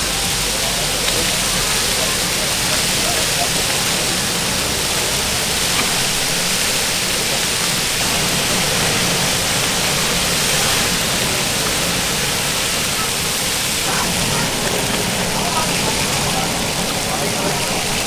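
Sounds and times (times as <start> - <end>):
reversed gas burner rushing: 0.0 - 18.0
reversed noodles sizzling: 0.0 - 18.0.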